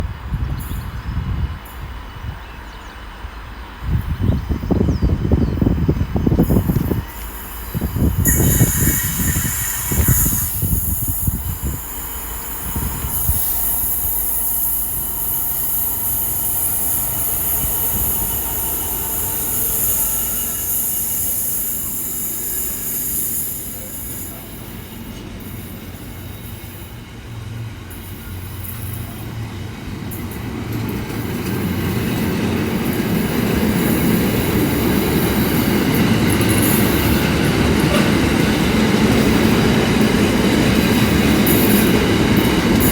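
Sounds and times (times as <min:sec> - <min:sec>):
train rumble: 0:00.0 - 0:42.9
train wheel squeal: 0:00.4 - 0:42.9.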